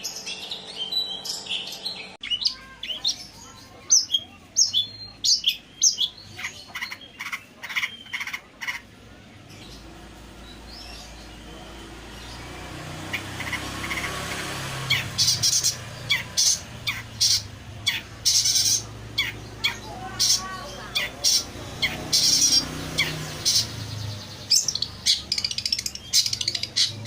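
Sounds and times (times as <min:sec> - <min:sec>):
shrike singing: 0:00.0 - 0:27.0.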